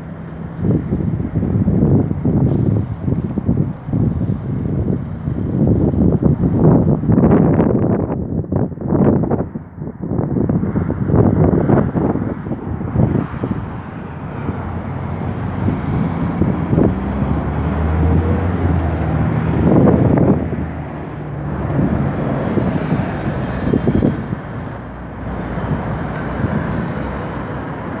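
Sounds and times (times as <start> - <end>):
bus engine hum: 0.0 - 28.0
street traffic: 0.0 - 28.0.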